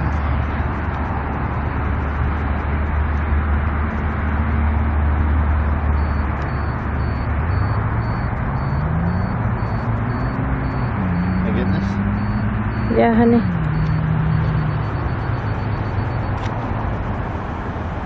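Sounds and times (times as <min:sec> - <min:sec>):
car cabin engine drone: 0:00.0 - 0:18.0.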